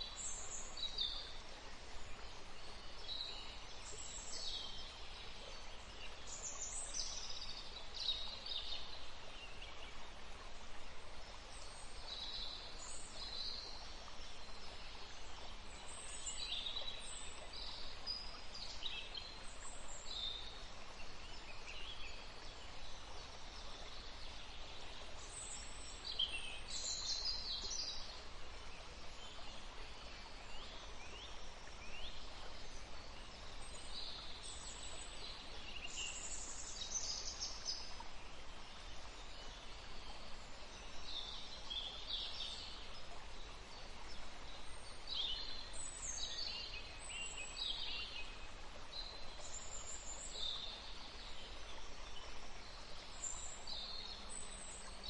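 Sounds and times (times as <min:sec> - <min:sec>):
faint outdoor background hiss: 0:00.0 - 0:55.0.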